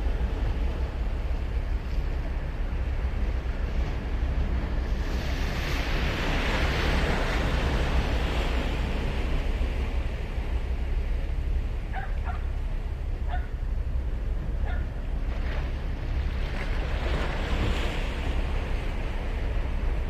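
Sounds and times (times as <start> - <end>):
wind rumble on microphone: 0.0 - 20.0
ocean wave breaking: 1.7 - 20.0.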